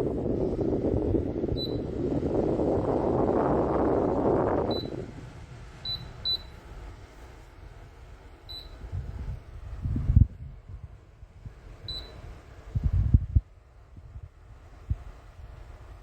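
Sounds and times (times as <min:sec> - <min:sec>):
rush of air: 0:00.0 - 0:08.2, 0:08.8 - 0:16.0.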